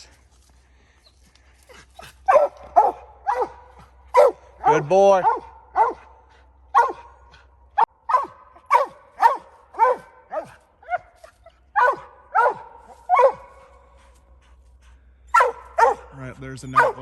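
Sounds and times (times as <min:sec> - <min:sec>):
dog barking: 0:02.0 - 0:14.0, 0:15.3 - 0:17.0.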